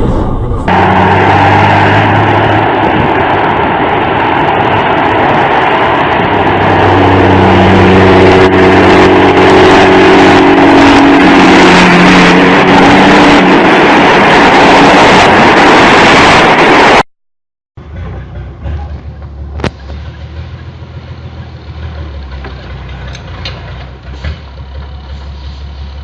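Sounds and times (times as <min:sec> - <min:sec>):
road noise: 0:00.0 - 0:17.1, 0:17.8 - 0:26.0
truck engine drone: 0:00.0 - 0:17.1, 0:17.8 - 0:26.0.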